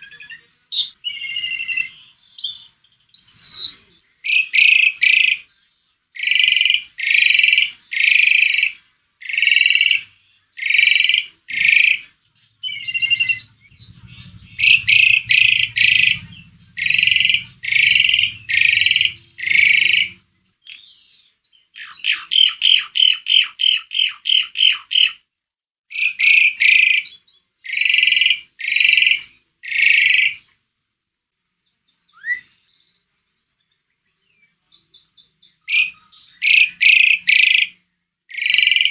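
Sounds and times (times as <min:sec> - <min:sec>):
starling harsh calls: 0:00.0 - 0:02.6, 0:03.2 - 0:05.5, 0:06.2 - 0:25.2, 0:25.9 - 0:30.5, 0:35.6 - 0:38.9.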